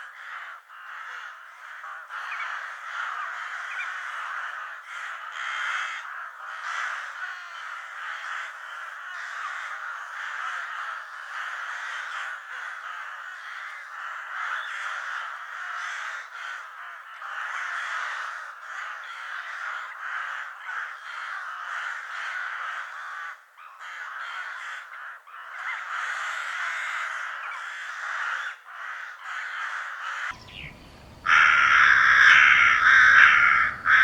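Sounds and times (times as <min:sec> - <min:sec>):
crows cawing: 0:00.0 - 0:34.0.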